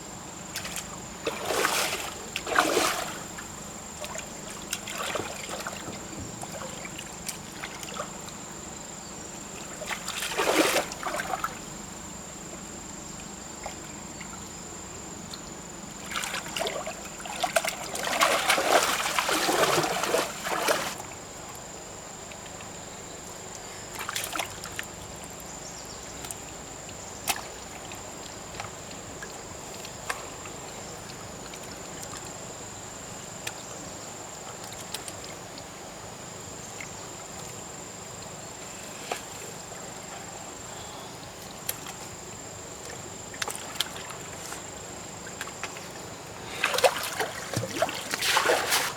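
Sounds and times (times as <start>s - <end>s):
water splashing and sloshing: 0.5s - 12.0s, 15.4s - 21.5s, 23.8s - 25.4s, 26.1s - 32.4s, 33.2s - 48.9s.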